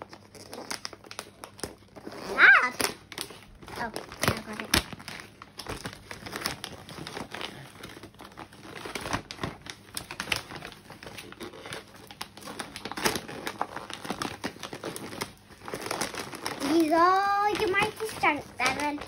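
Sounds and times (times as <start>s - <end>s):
gift-wrap paper crinkling: 0.0s - 19.0s.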